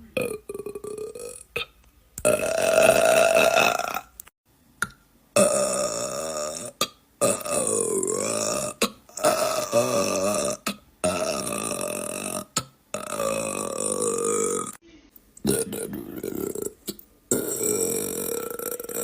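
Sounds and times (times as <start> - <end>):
man burping: 0.0 - 4.3, 5.4 - 14.8, 15.4 - 19.0.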